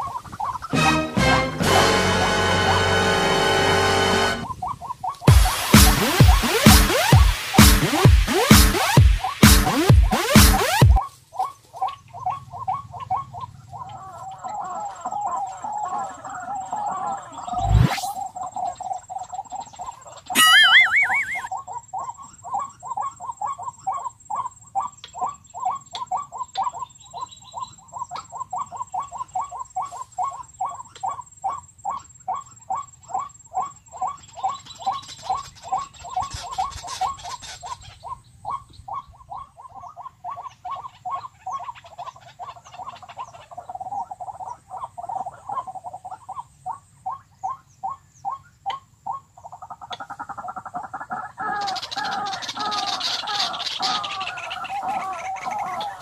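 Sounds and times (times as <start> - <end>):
recorded bird calls from speaker: 10.6 - 56.0.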